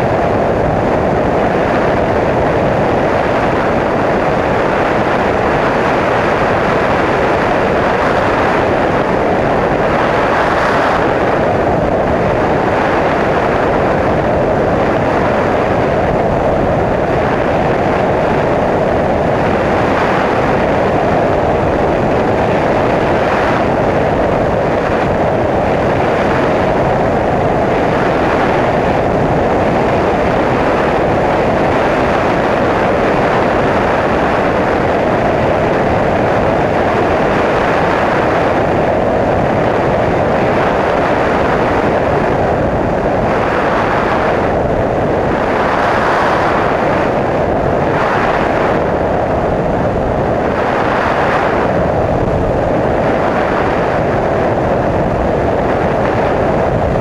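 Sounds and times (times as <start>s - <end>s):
aircraft engine noise: 0.0s - 57.0s
wind rush in aircraft: 0.0s - 57.0s.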